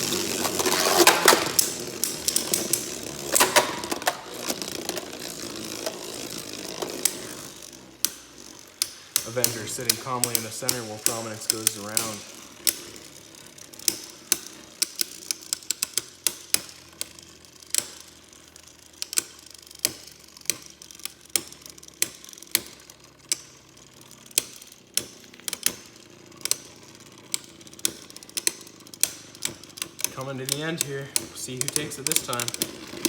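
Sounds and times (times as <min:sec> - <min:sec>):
faint steady whirr: 0:00.0 - 0:33.0
spinning tops clacking: 0:00.0 - 0:33.0.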